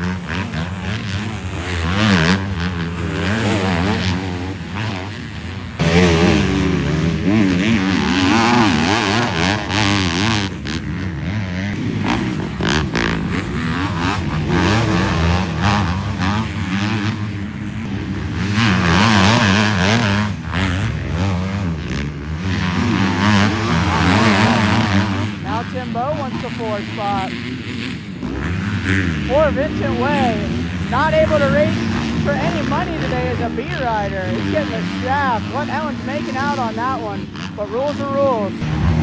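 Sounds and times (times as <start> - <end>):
motocross bikes revving past: 0.0 - 39.0.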